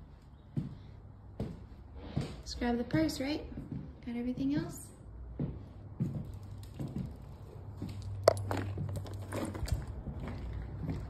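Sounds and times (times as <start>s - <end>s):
footsteps on hardwood floor: 0.5s - 11.0s.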